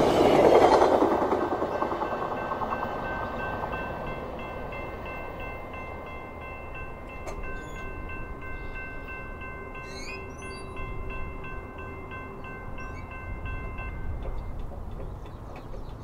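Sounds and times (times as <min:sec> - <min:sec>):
railway crossing bell ringing: 0:00.0 - 0:15.5
passenger train rumble: 0:00.0 - 0:16.0.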